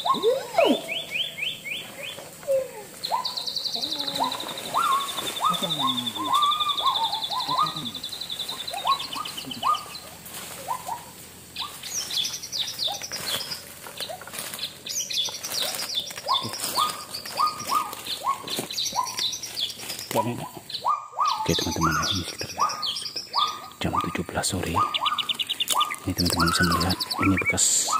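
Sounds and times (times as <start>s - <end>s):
birds whistling up-slurred notes: 0.0s - 27.9s
high bird chirps: 0.0s - 27.9s
high pulsing bird trill: 0.0s - 27.9s.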